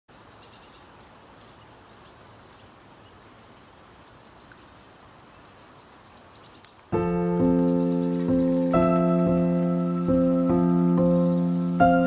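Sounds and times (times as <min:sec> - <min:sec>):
faint outdoor hiss: 0:00.1 - 0:12.0
small birds chirping: 0:00.1 - 0:12.0.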